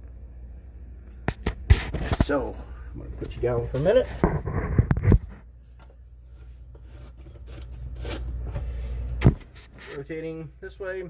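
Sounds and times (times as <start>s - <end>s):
faint clicks and scrapes: 1.1s - 10.3s.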